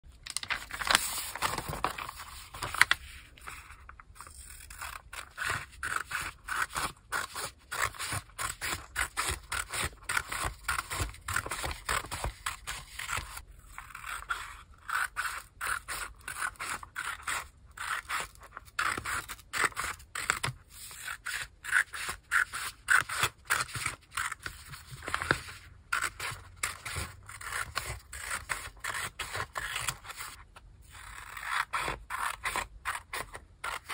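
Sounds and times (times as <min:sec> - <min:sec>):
scissors cutting paper: 0:00.4 - 0:33.9.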